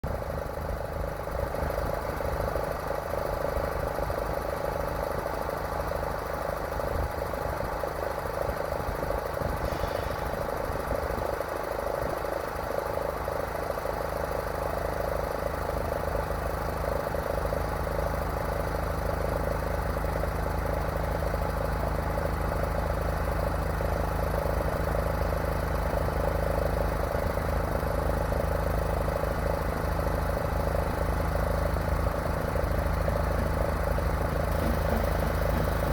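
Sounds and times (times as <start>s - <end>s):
vehicle engine idling: 0.0s - 35.9s.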